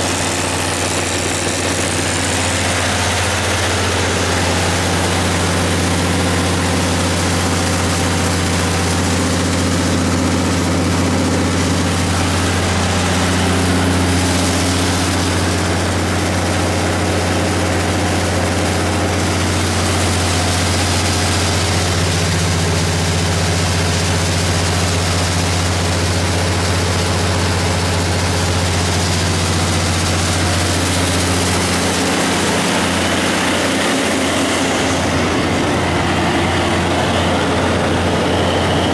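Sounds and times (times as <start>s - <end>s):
diesel generator engine drone: 0.0s - 38.9s.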